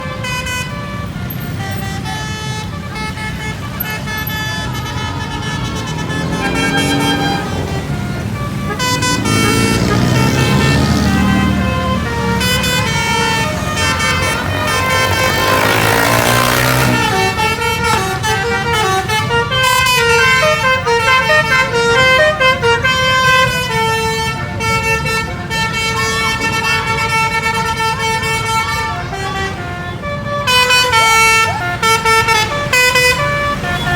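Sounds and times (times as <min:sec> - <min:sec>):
bus engines running: 0:00.0 - 0:33.9
bus melody horns: 0:00.0 - 0:33.9.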